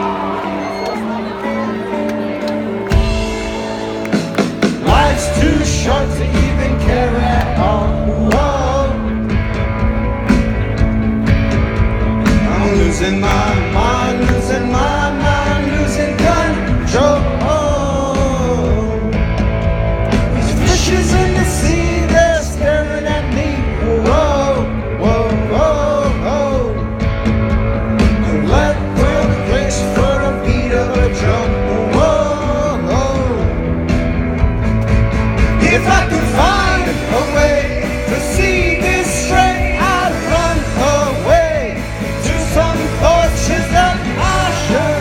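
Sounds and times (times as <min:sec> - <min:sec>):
rock band playing live: 0:00.0 - 0:45.0.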